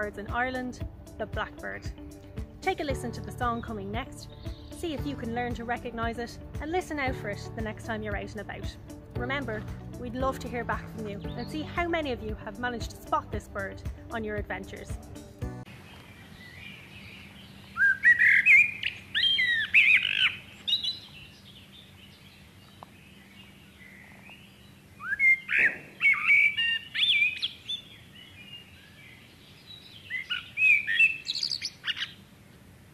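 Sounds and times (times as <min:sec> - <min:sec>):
blackbird singing: 0:02.7 - 0:08.7, 0:09.4 - 0:15.0, 0:15.9 - 0:32.2.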